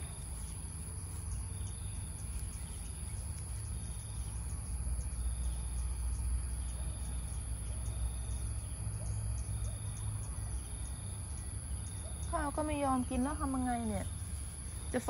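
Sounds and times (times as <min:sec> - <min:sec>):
insects droning in grass: 0:00.0 - 0:15.0.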